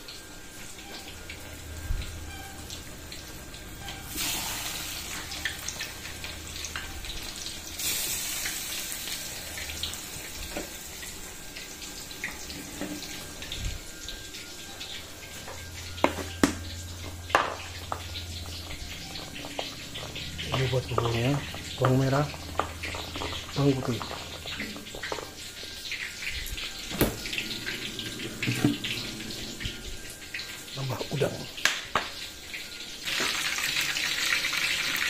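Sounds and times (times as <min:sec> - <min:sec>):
tofu sizzling in a wok: 0:00.0 - 0:27.4, 0:31.6 - 0:35.0.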